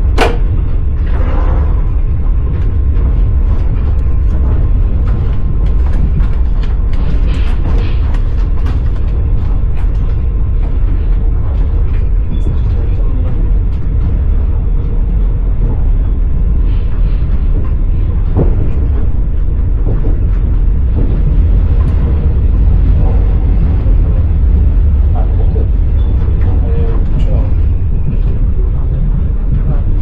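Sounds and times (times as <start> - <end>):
train rumbling inside carriage: 0.0 - 30.0.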